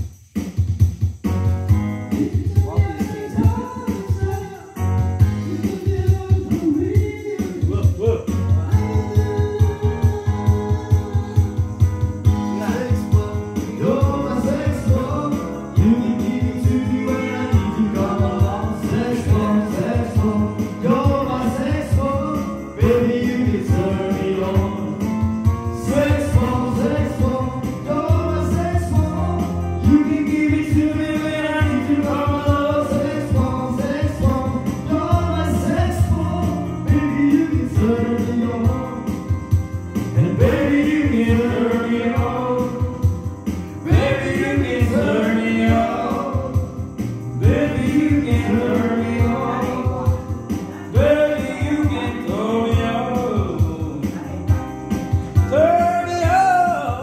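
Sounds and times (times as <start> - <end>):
upbeat song with singing: 0.0 - 57.0.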